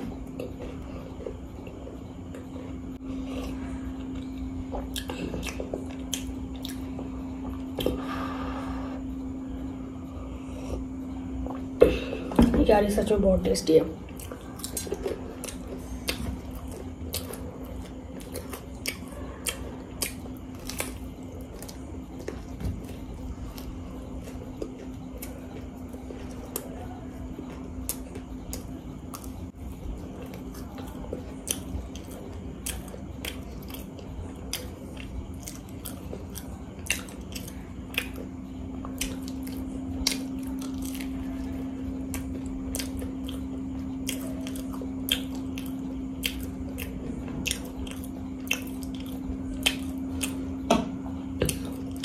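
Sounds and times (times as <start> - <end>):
crunchy chewing: 0.0 - 12.3, 13.9 - 52.0
steady low hum: 0.0 - 52.0.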